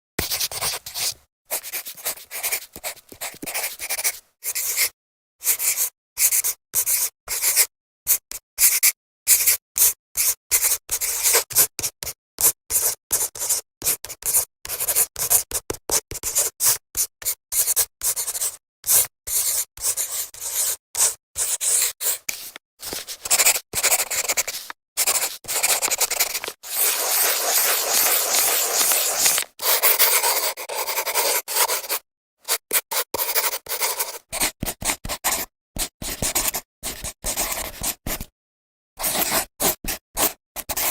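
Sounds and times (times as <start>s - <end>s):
marker scratching on whiteboard: 0.2s - 7.7s, 9.3s - 38.2s, 39.0s - 40.9s.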